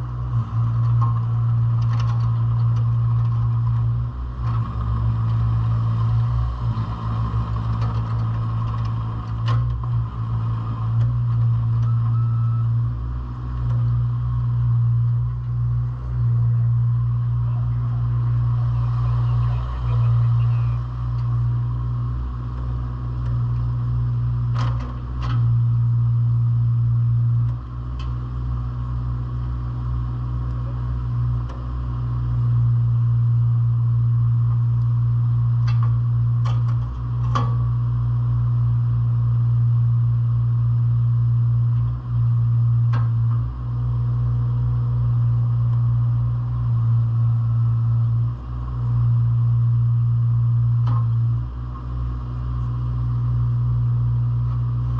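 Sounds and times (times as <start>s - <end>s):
diesel excavator engine running: 0.0s - 54.9s.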